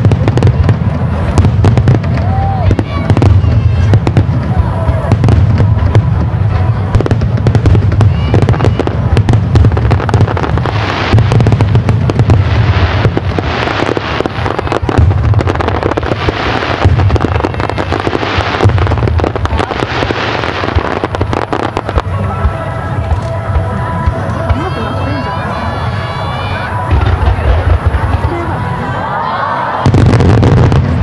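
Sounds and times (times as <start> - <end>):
fireworks crackling pops: 0.0 - 28.9, 29.8 - 31.0
fireworks booming: 0.0 - 31.0.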